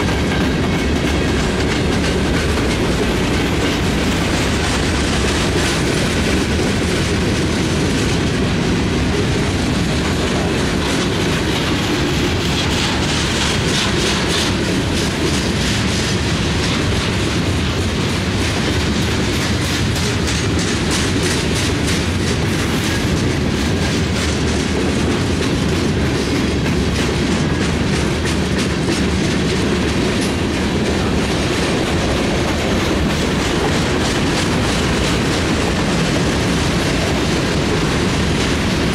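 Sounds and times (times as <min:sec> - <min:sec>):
train wheels on rail: 0:00.0 - 0:38.9
wheels clicking over rail joints: 0:00.0 - 0:38.9.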